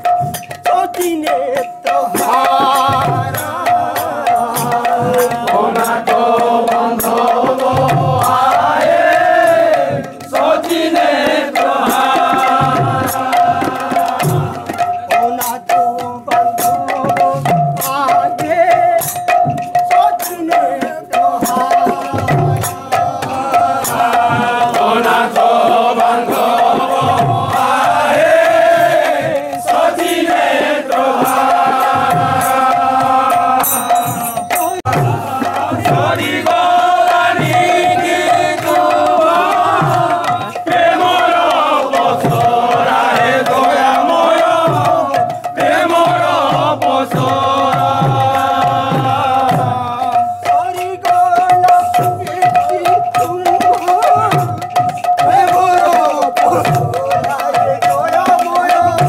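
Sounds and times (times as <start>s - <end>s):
barrel drum beating: 0.0s - 59.0s
men singing in chorus: 0.0s - 59.0s
sharp percussive clatter: 0.0s - 59.0s.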